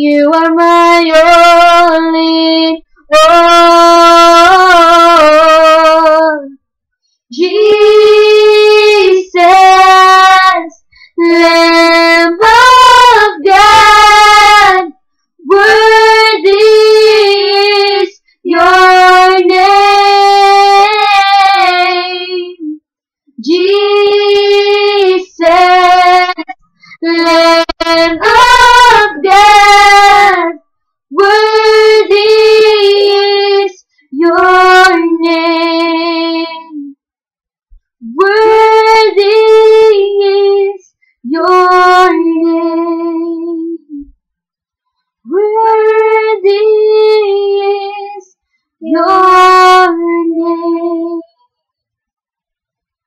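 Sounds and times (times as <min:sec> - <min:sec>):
girl singing unaccompanied: 0:00.0 - 0:06.5, 0:07.3 - 0:22.8, 0:23.4 - 0:36.9, 0:38.1 - 0:44.1, 0:45.3 - 0:51.3.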